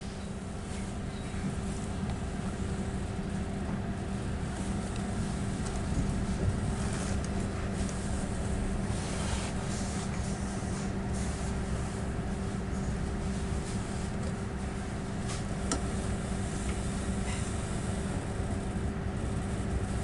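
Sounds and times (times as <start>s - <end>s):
train engine idling hum: 0.0s - 20.0s.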